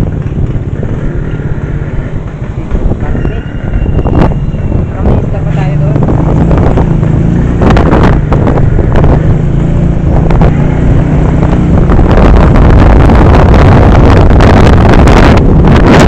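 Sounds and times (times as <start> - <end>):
engine humming: 0.0 - 16.0
wind buffeting microphone: 0.0 - 16.0.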